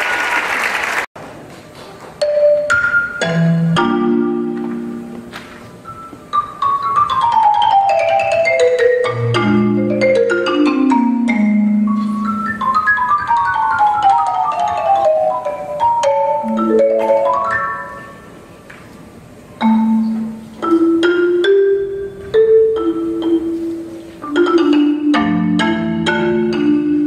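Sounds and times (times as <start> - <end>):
marimba runs: 2.2 - 18.4, 19.6 - 27.0.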